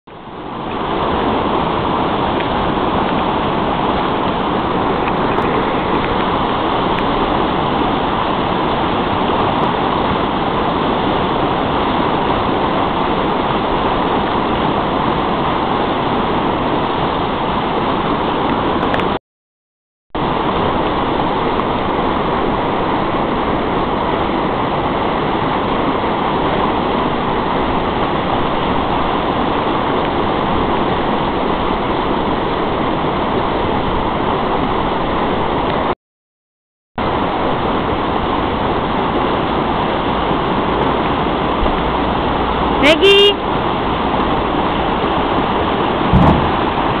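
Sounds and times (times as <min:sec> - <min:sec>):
rushing river water: 0:00.1 - 0:19.2, 0:20.2 - 0:36.0, 0:37.0 - 0:47.0.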